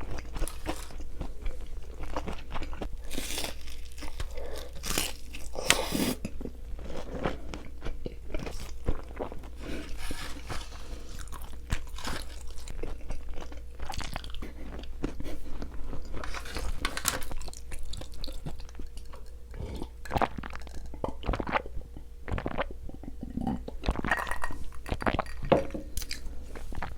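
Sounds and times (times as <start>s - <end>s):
person chewing and crunching: 0.0s - 26.9s.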